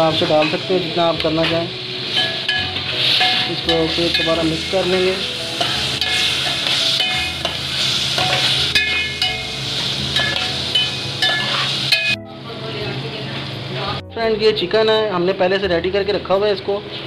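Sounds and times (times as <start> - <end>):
vegetables sizzling: 0.0 - 14.0.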